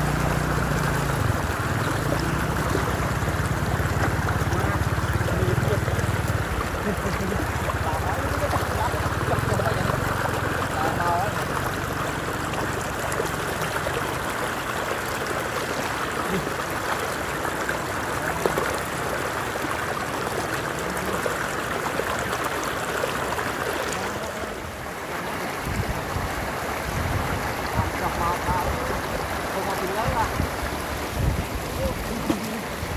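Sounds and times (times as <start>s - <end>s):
running water rushing: 0.0s - 32.9s.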